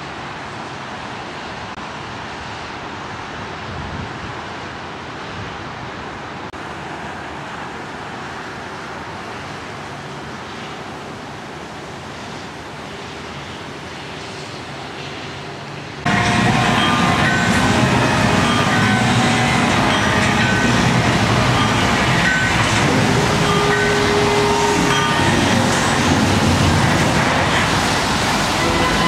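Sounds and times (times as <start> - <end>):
steady outdoor noise: 0.0 - 29.0.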